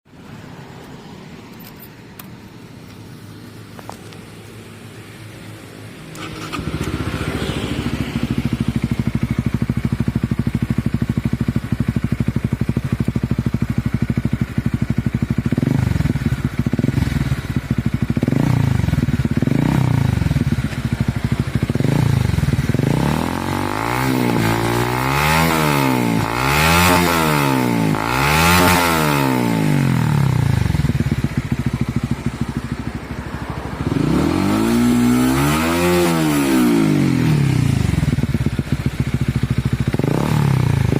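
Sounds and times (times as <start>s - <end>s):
motorcycle engine idling and revving: 0.1s - 40.9s.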